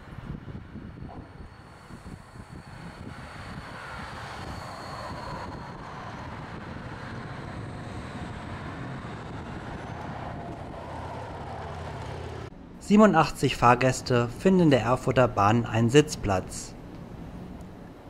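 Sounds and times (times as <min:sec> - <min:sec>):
road traffic: 0:00.0 - 0:18.0
tram passing: 0:00.1 - 0:18.0.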